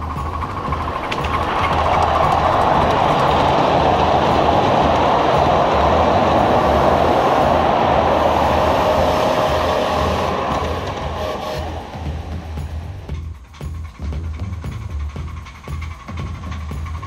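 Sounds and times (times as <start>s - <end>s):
train wheels rolling on track: 0.0s - 17.0s.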